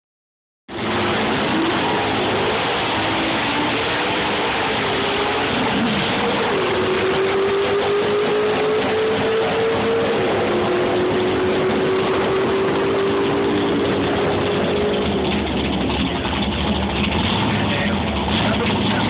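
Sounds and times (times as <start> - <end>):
car engine revving high: 0.7 - 19.0.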